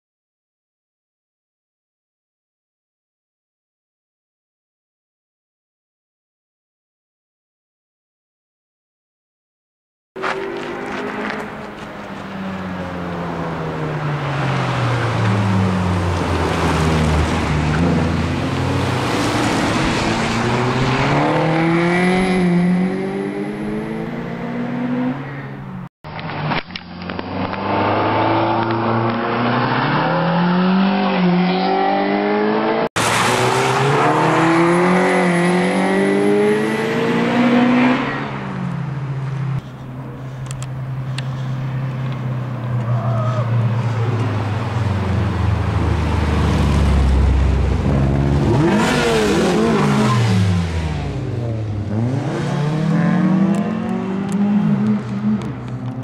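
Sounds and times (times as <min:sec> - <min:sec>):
car engines revving past: 0:10.2 - 0:56.0.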